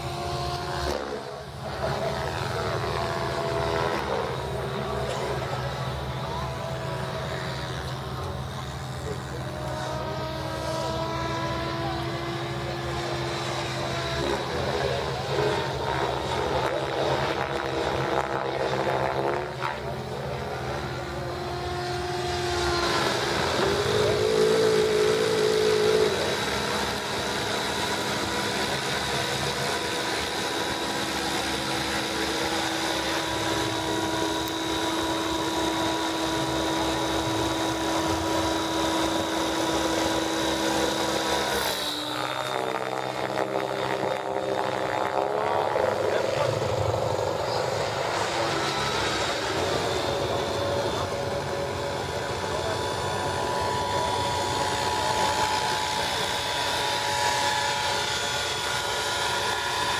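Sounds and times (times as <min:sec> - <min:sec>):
model helicopter rotor whine: 0:00.0 - 0:59.9.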